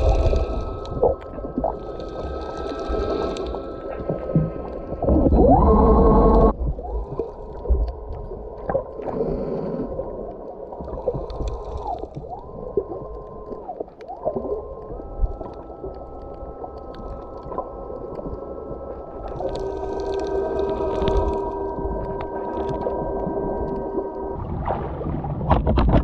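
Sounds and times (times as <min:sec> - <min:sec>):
whining tones: 0:00.0 - 0:24.4
underwater gurgling: 0:00.0 - 0:26.0.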